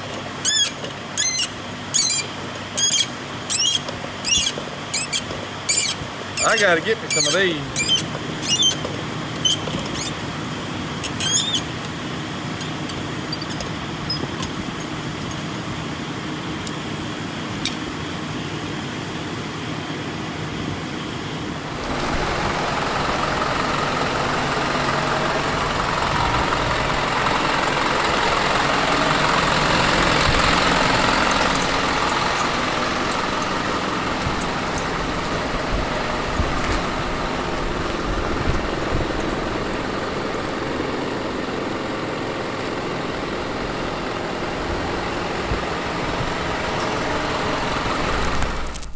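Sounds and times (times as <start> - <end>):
motor vehicle engine noise: 0.0 - 48.9.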